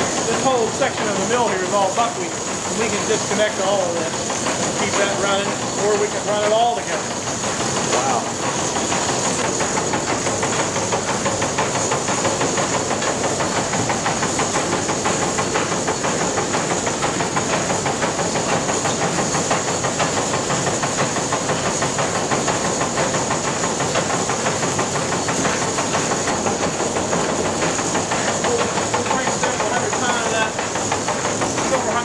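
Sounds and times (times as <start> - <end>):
mill machinery clatter: 0.0 - 32.0.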